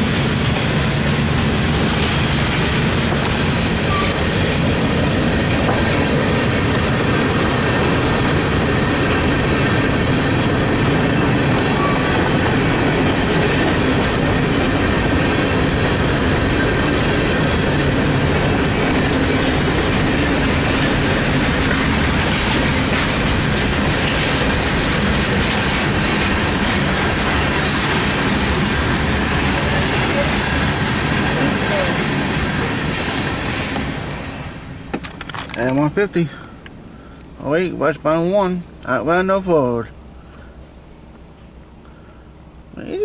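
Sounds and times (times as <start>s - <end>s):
freight car wheels rumbling: 0.0s - 41.9s.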